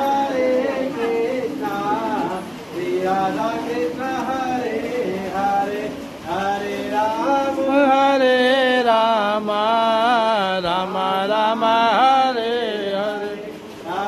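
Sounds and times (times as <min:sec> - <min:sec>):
person chanting devotional song: 0:00.0 - 0:14.0.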